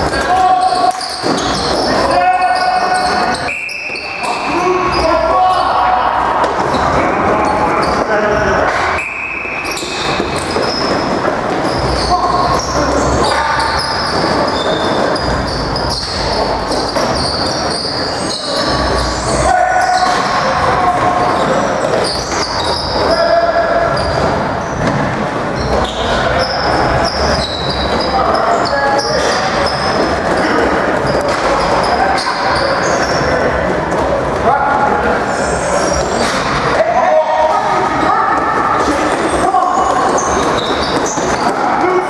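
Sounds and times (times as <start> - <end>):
shoes squeaking on floor: 0.0 - 34.4, 35.2 - 42.0
players calling out: 0.0 - 42.0.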